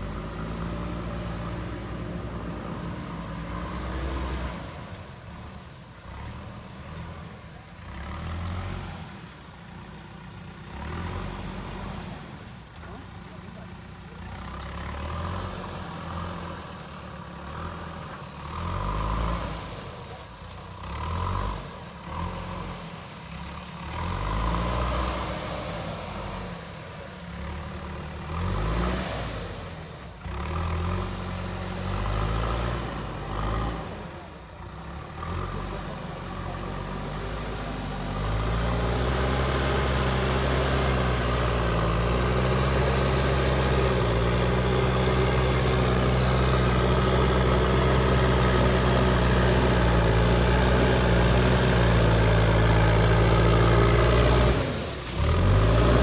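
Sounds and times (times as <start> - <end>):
backhoe diesel engine working: 0.0 - 56.0.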